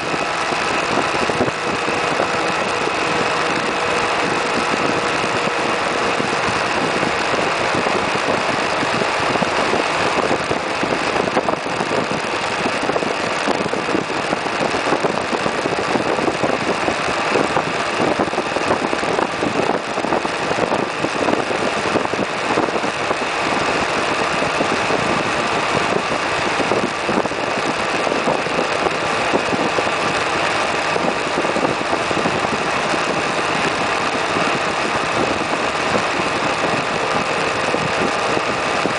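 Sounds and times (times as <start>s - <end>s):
scooter engine cruising: 0.0s - 38.9s
wind and road noise: 0.0s - 38.9s.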